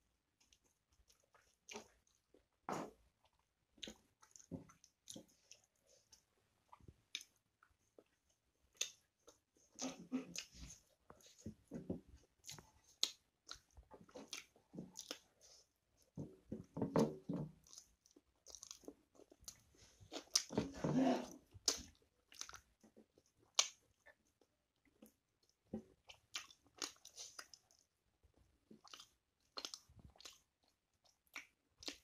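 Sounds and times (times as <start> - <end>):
person chewing with wet smacks: 0.3 - 32.0.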